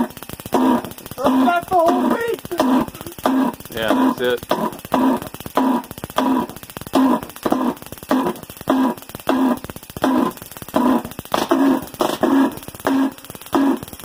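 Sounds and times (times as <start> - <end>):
pulse jet engine pulses: 0.0 - 14.0
spark igniter ticking: 0.0 - 14.0.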